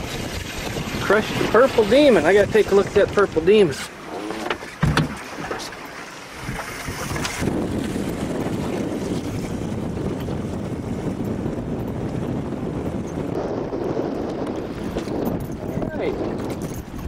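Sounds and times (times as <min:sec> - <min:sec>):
outboard motor running: 0:00.0 - 0:17.0
wind rumbling on microphone: 0:00.0 - 0:17.0.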